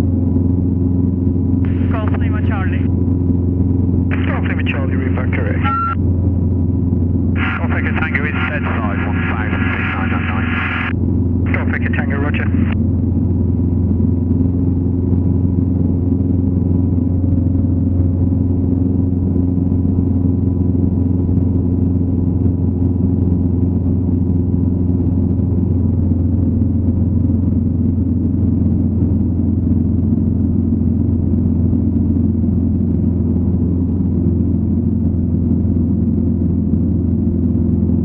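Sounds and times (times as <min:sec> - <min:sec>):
light aircraft engine droning: 0:00.0 - 0:38.0.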